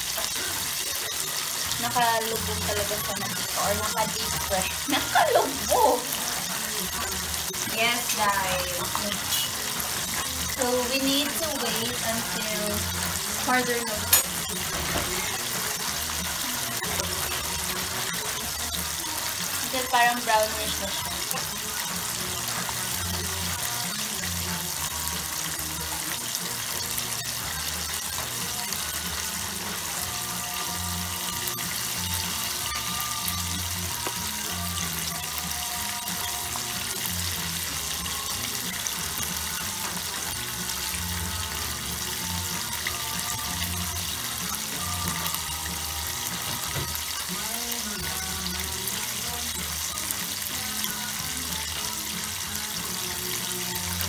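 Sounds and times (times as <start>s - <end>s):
chicken sizzling in hot oil: 0.0s - 54.0s
music: 0.0s - 54.0s.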